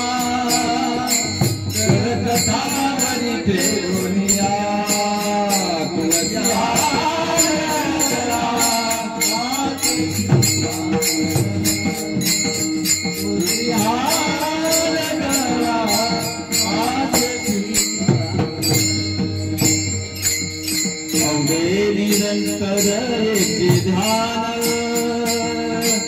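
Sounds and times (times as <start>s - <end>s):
devotional singing: 0.0s - 19.9s, 20.7s - 26.0s
hand cymbals clashing: 0.0s - 26.0s.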